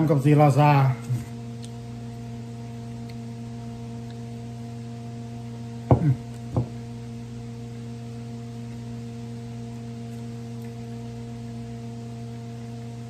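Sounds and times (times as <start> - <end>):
low multi-tone hum: 0.0 - 13.0.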